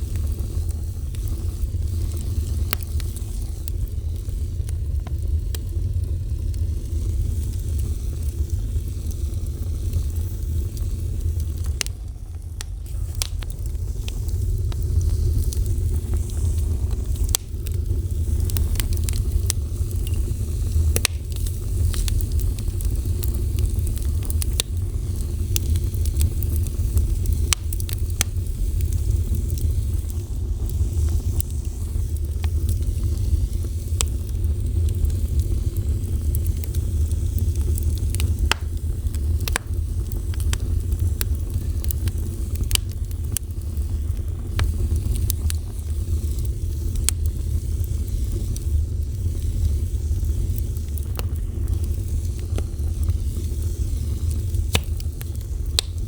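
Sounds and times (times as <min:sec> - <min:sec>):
fire burning with crackles: 0:00.0 - 0:56.0.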